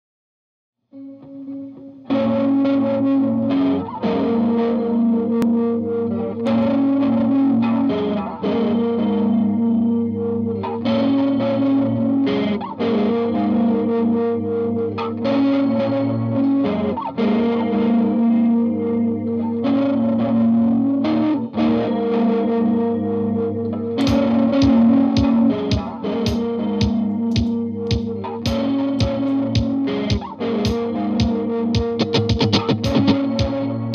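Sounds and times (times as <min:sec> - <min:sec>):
electric guitar with fuzz and echo: 0:00.9 - 0:33.9
sharp picked guitar notes: 0:01.0 - 0:33.9.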